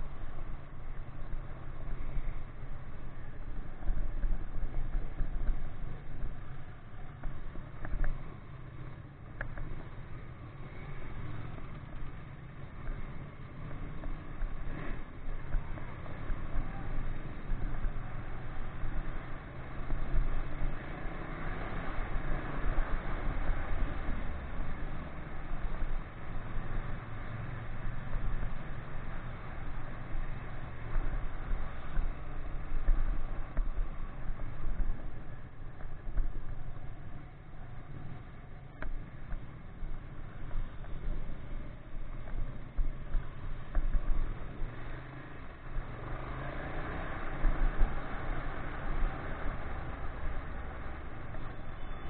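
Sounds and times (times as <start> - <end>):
motorcycle engine rumble: 0.0 - 52.0
wind and road noise: 0.0 - 52.0.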